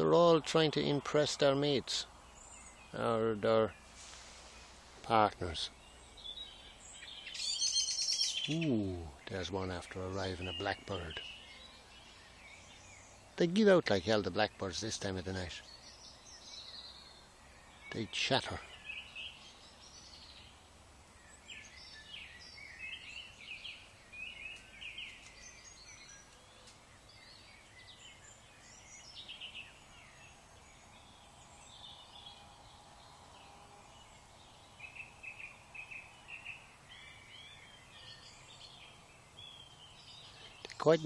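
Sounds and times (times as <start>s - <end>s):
blackbirds chattering: 0.0s - 41.0s
woodland songbirds calling: 0.0s - 41.0s.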